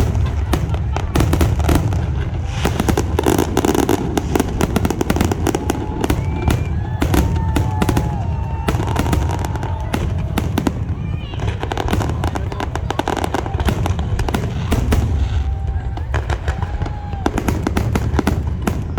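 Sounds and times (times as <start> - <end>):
fireworks crackling and banging: 0.0 - 18.9
whistling fireworks: 0.0 - 18.9.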